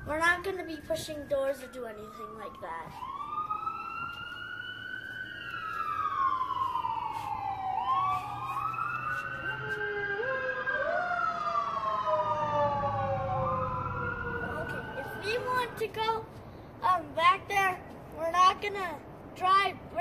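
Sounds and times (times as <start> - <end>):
emergency sirens wailing: 0.0 - 16.3.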